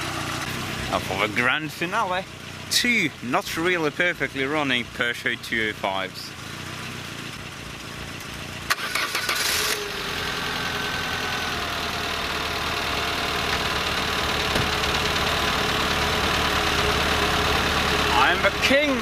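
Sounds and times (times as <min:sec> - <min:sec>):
car engine idling unevenly: 0:00.0 - 0:19.0.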